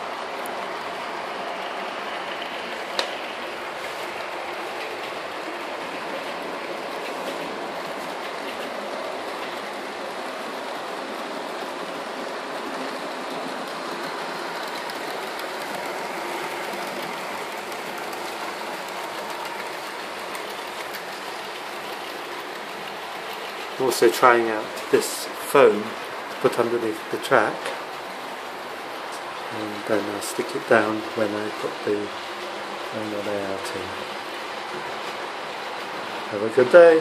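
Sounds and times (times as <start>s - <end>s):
model train motors whirring: 0.0s - 37.0s.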